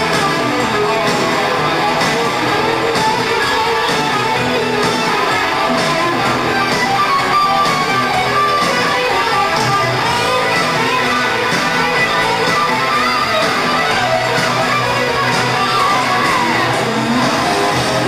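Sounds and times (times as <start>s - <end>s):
hard rock band playing live: 0.0s - 18.0s.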